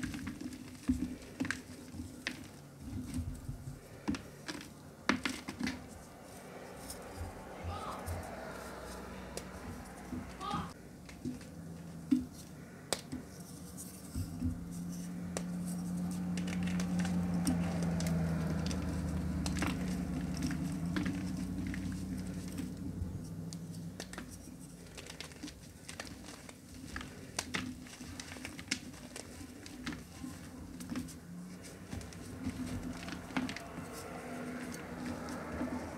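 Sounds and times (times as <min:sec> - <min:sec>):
chalk crushing and crackling: 0:00.0 - 0:35.9.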